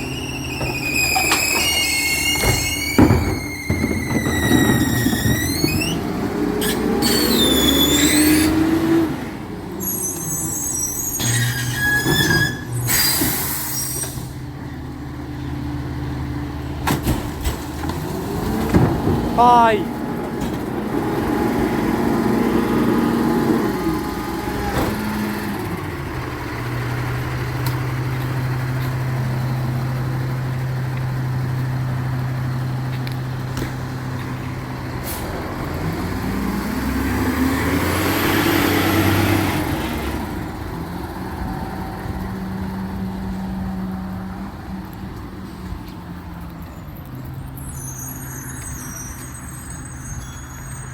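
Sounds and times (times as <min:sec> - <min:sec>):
truck engine revving: 0:00.0 - 0:14.5, 0:15.5 - 0:44.3.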